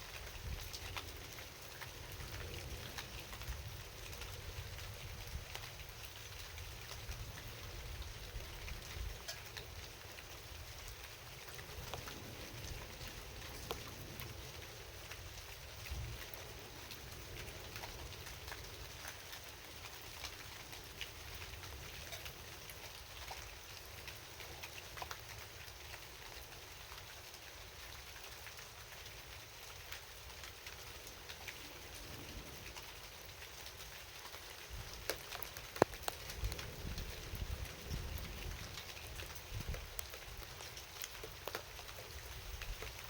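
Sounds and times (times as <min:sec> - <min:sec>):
raindrops ticking on a surface: 0:00.0 - 0:43.0
steady hiss of rain: 0:00.0 - 0:43.0.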